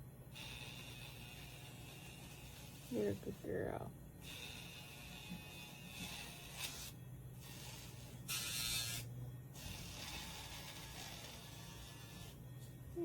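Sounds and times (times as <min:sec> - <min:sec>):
nail grinder humming: 0:00.3 - 0:12.5
grinder rasping against nail: 0:00.4 - 0:03.6, 0:04.2 - 0:12.4.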